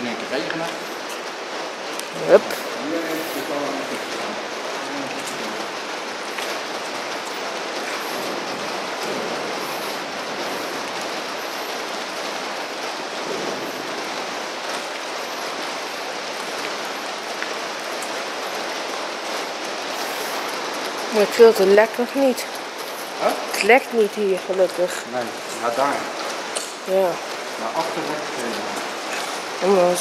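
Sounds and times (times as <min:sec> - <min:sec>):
rain on a roof: 0:00.0 - 0:30.0.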